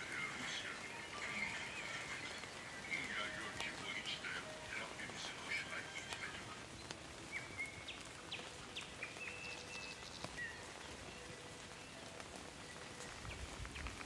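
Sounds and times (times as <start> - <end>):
light rain falling: 0.0 - 14.0
raindrops tapping: 0.0 - 14.0.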